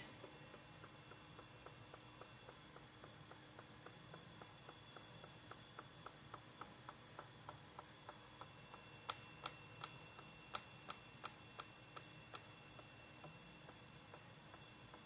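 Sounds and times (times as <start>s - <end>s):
machine clicking: 0.0s - 15.0s.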